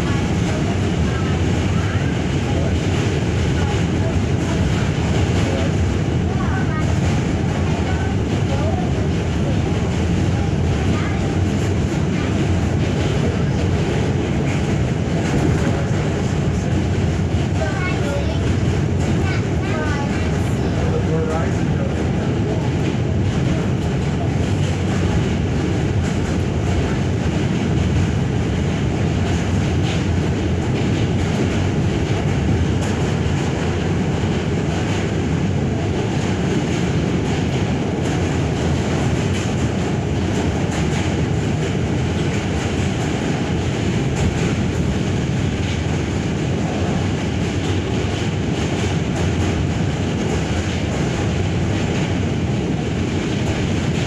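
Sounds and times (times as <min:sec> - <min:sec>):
subway wheels on rails: 0:00.0 - 0:54.0.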